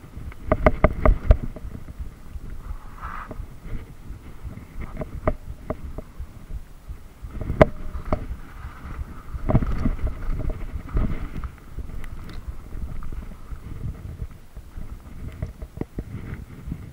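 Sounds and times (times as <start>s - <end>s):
bike rattling over bumps: 0.0s - 16.9s
bike tyres rumbling on dirt: 0.0s - 16.9s.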